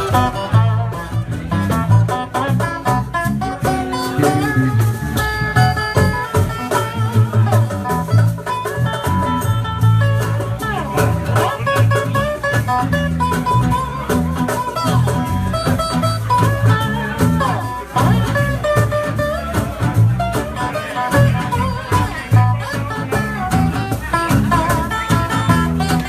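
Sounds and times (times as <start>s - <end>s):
electric guitar melody: 0.0s - 26.0s
live band playing: 0.0s - 26.0s.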